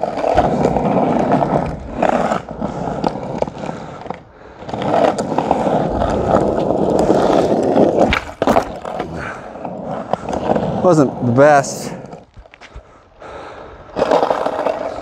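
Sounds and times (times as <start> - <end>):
skateboard wheels on rough asphalt: 0.0 - 15.0.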